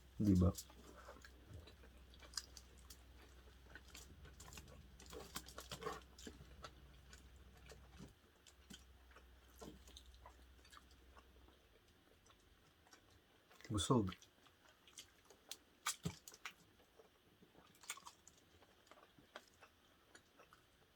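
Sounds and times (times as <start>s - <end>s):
chewing and eating: 0.0s - 20.9s.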